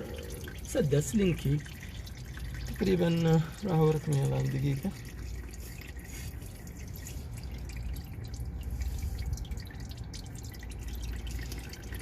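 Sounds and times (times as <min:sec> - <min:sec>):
fluid dripping: 0:00.0 - 0:12.0
low steady rumble: 0:00.0 - 0:12.0.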